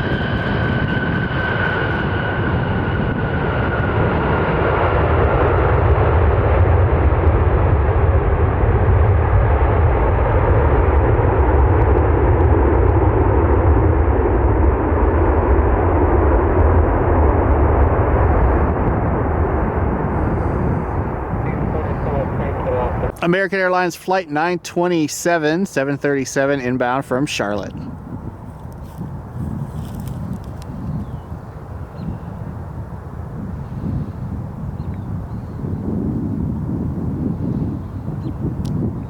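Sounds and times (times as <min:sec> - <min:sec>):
high jet whine: 0:00.0 - 0:39.0
jet engines roaring past: 0:00.0 - 0:39.0.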